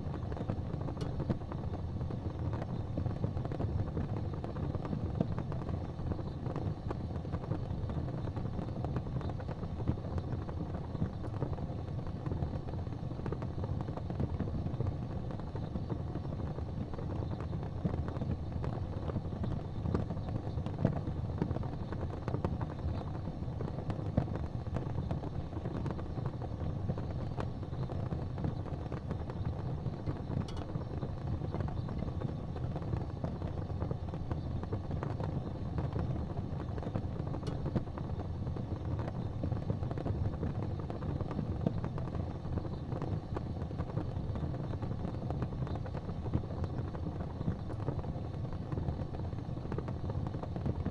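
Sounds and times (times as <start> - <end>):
fire crackles and pops: 0.0 - 50.9
low rumble of flames: 0.0 - 50.9.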